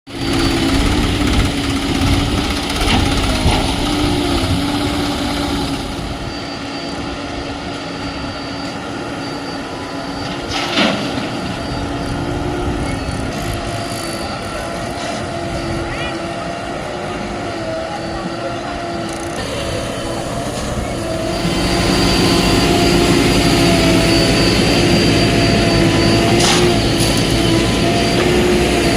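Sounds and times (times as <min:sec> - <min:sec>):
diesel engine revving under load: 0:00.1 - 0:28.9.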